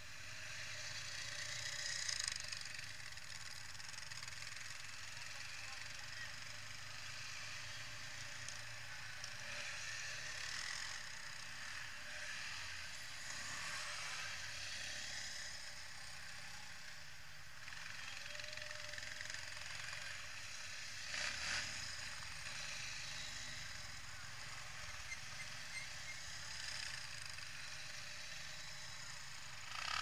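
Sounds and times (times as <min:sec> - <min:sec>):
quad bike engines running: 0:00.0 - 0:30.0.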